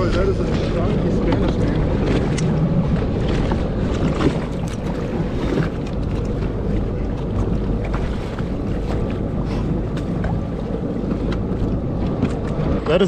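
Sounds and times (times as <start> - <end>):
small knocks and splashes: 0.0 - 13.0
water moving around boat hull: 0.0 - 13.0
wind rumbling on microphone: 0.0 - 13.0.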